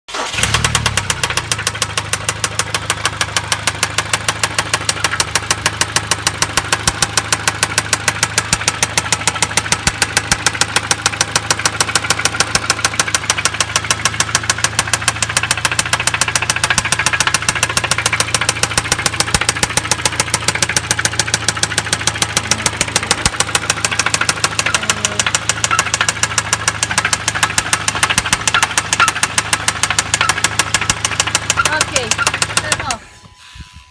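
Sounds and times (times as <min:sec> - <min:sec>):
car engine knocking: 0:00.2 - 0:33.1.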